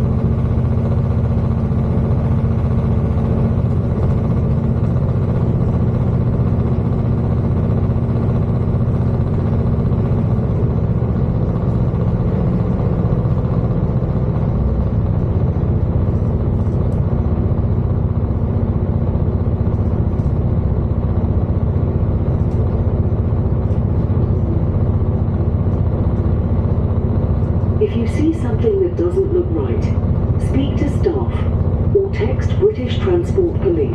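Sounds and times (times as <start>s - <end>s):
train diesel engine humming: 0.0s - 33.9s
train wheels rumbling on track: 0.0s - 33.9s.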